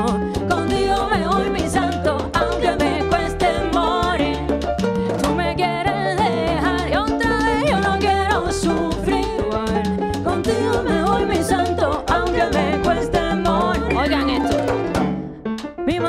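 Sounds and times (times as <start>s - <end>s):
woman singing: 0.0s - 4.6s, 5.2s - 14.7s
piano bass and hand drums: 0.0s - 16.0s.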